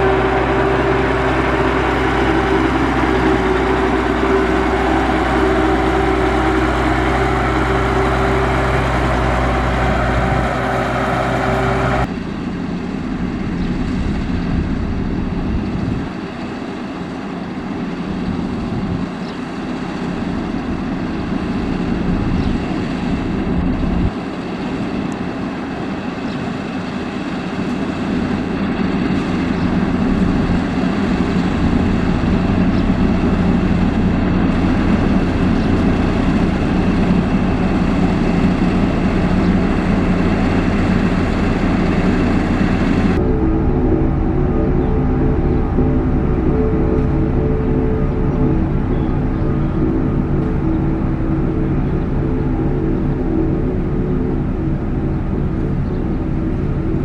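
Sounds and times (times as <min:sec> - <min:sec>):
heavy machinery engine running: 0:00.0 - 0:57.0.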